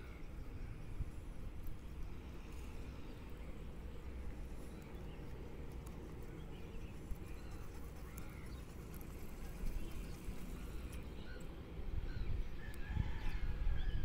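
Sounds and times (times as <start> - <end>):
wind rumble on microphone: 0.0 - 14.0
faint bird chirps: 2.6 - 14.0.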